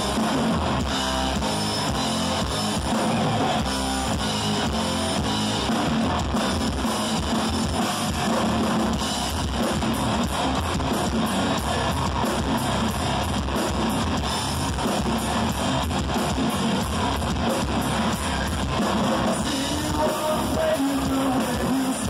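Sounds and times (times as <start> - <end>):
bass guitar: 0.0 - 22.0
drums: 0.0 - 22.0
electric guitars: 0.0 - 22.0.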